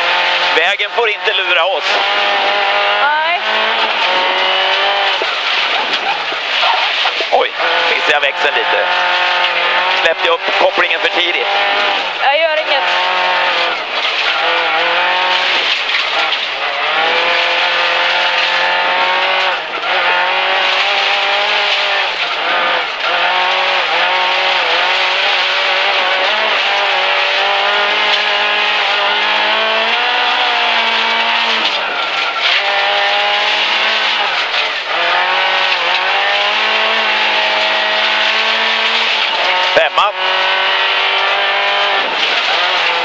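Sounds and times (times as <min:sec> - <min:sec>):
rally car engine revving: 0:00.0 - 0:43.0
tyres on gravel: 0:00.0 - 0:43.0.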